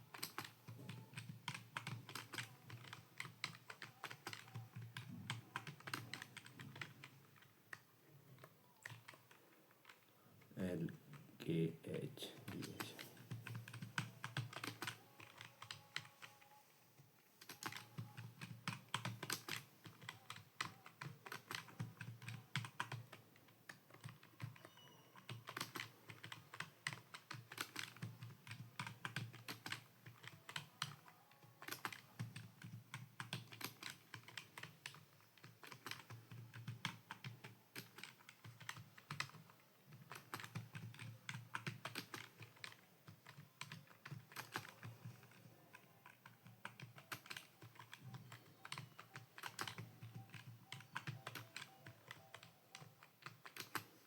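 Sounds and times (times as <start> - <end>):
computer keyboard typing: 0.0 - 10.1, 12.4 - 54.0.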